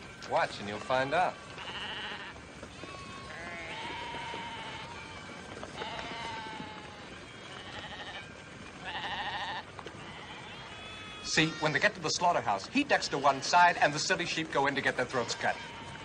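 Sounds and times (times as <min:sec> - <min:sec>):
sheep bleating: 0:00.6 - 0:16.0.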